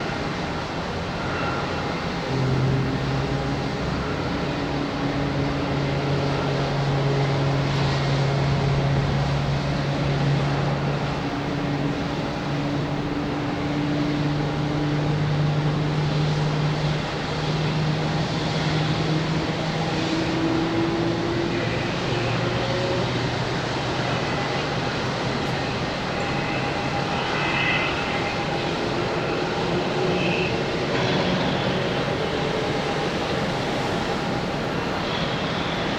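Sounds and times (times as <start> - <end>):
jet engines humming: 0.0 - 35.9.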